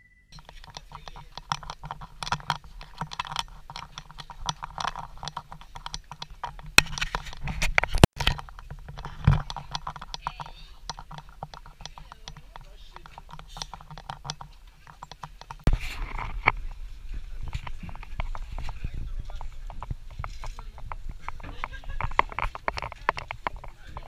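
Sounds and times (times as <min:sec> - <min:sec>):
sharp clicks and knocks: 0:00.4 - 0:16.8, 0:17.4 - 0:24.0.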